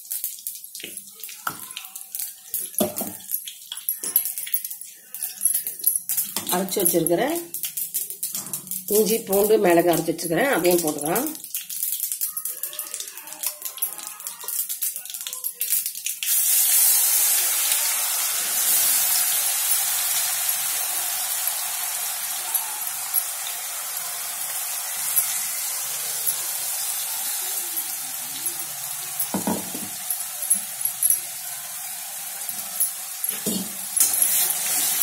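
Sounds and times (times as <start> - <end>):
paste sizzling in hot oil: 0.0 - 35.0.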